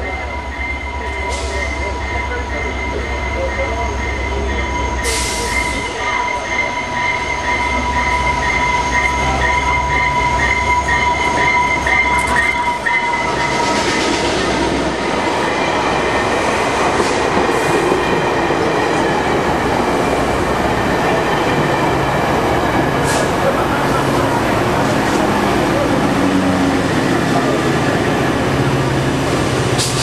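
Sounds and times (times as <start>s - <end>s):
diesel locomotive engine rumbling: 0.0s - 30.0s
train wheel and rail noise: 0.0s - 30.0s.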